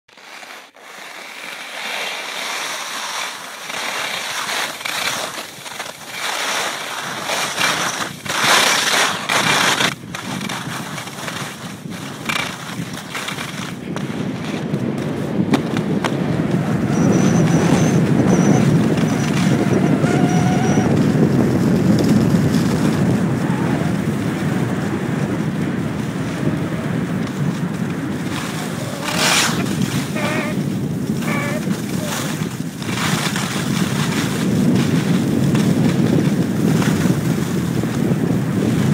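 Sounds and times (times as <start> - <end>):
skis scraping on snow: 0.1 - 38.9
wind buffeting microphone: 7.0 - 38.9.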